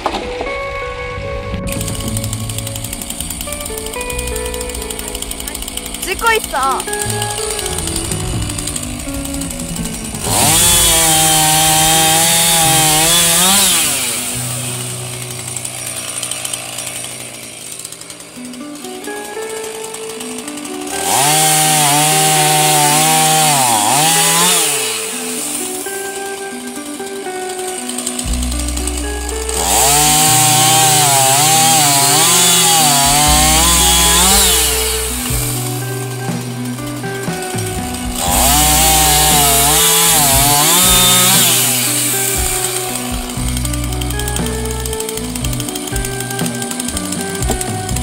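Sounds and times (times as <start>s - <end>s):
background music: 0.0s - 48.0s
chainsaw cutting log: 1.7s - 48.0s.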